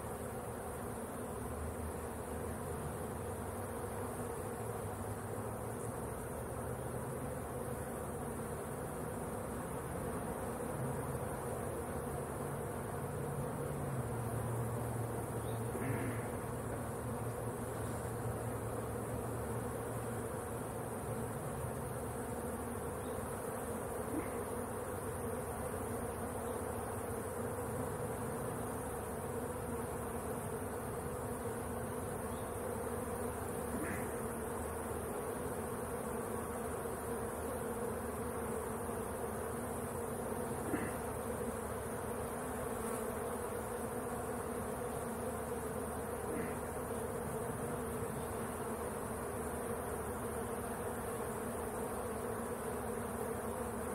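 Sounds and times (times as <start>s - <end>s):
bees buzzing: 0.0s - 53.9s.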